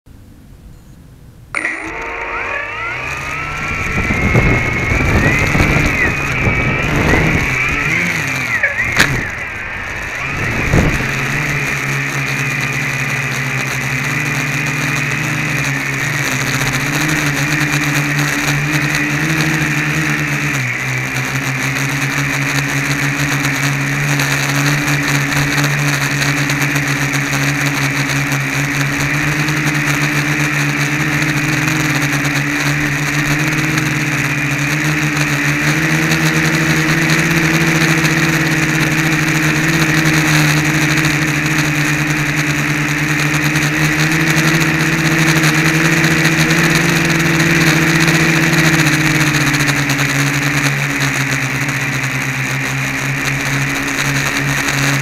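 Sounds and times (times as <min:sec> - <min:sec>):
quadcopter motors and propellers: 0:01.5 - 0:55.0.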